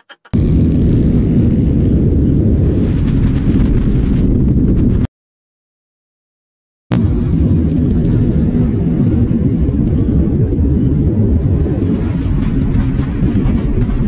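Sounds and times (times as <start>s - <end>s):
wind rush on microphone: 0.4s - 5.1s, 6.9s - 14.0s.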